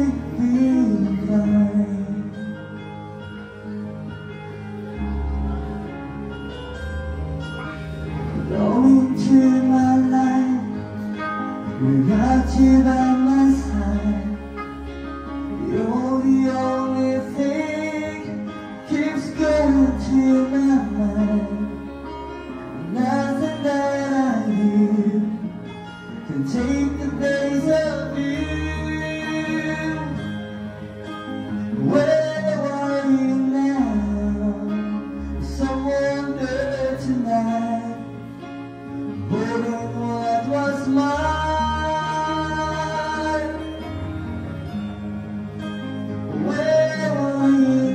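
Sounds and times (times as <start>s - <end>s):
man singing into a microphone: 0.0s - 2.9s, 8.4s - 30.9s, 31.5s - 44.8s, 46.3s - 47.9s
acoustic guitar: 0.0s - 47.9s
keyboard: 0.0s - 47.9s.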